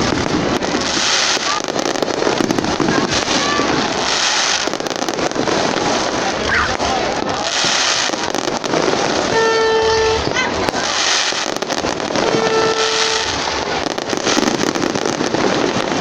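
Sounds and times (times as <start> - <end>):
fireworks crackling and popping: 0.0 - 16.0
fireworks hissing: 0.0 - 16.0.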